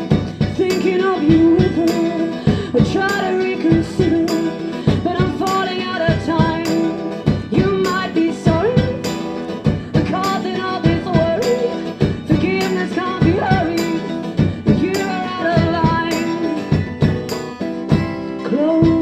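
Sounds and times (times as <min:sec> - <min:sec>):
acoustic guitars: 0:00.0 - 0:19.0.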